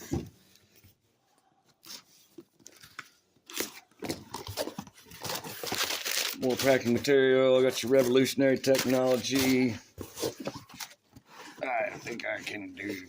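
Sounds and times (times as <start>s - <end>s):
packing paper rustling: 1.8s - 13.0s.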